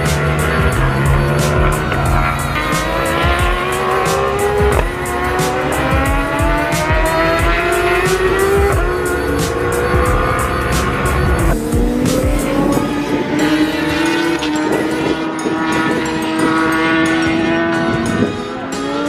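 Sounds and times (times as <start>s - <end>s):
engine crackles: 0.0s - 19.0s
racing motorbikes accelerating: 0.0s - 19.0s.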